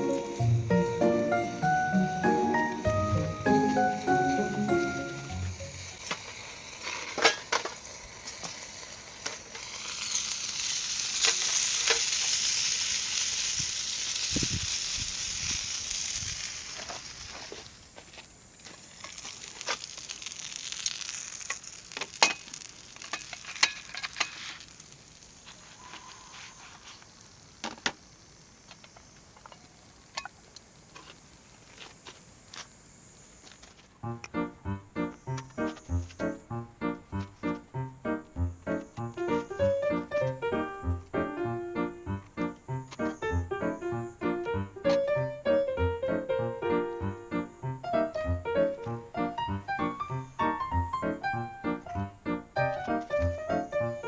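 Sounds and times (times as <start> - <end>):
food sizzling: 0.0 - 33.6, 37.4 - 54.0.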